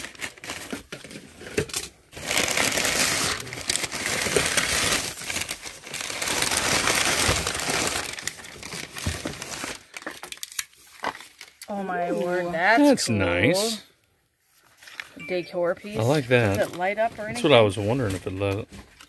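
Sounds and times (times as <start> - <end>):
packing paper rustling and crinkling: 0.0 - 11.6, 14.5 - 15.2, 15.9 - 19.0.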